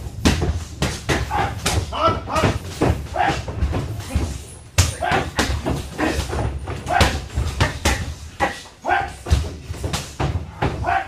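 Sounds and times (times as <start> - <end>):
strikes smacking pads: 0.1 - 11.0.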